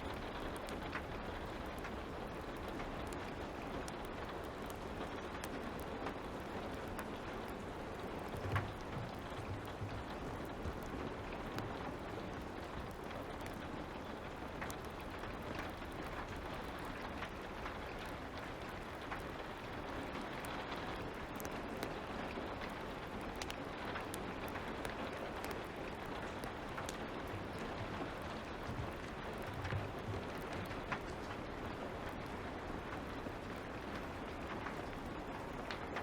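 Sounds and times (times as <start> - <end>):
light rain hiss: 0.0 - 36.0
wood fire crackling: 0.0 - 36.0.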